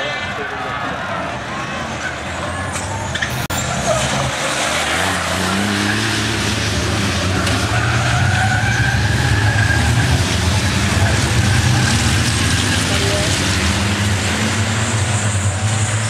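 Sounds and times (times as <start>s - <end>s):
truck diesel engines racing: 0.0s - 16.0s.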